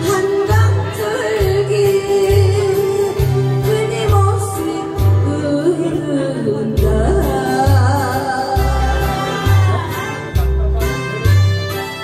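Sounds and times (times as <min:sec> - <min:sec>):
woman singing: 0:00.0 - 0:10.2
acoustic guitar: 0:00.0 - 0:12.0.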